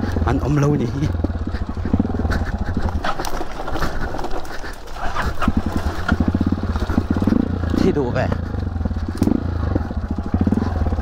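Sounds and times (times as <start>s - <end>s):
dirt bike engine chugging: 0.0s - 11.0s.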